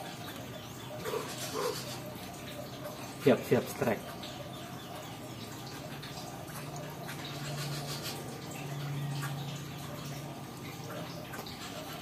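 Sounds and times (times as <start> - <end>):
running water trickling: 0.0 - 12.0
water drips: 0.0 - 12.0.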